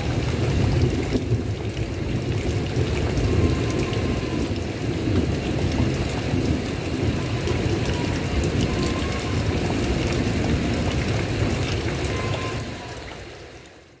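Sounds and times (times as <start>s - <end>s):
heavy rain on a tile roof: 0.0s - 14.0s.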